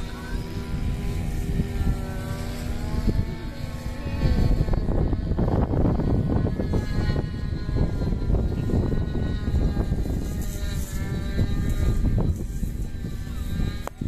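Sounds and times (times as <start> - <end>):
model airplane engine buzzing: 0.0 - 14.0.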